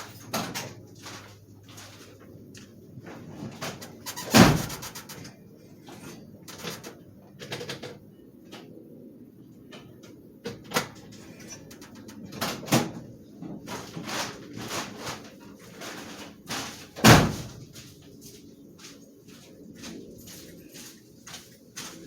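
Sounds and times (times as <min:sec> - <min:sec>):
handling noises: 0:00.0 - 0:08.7, 0:09.7 - 0:22.0.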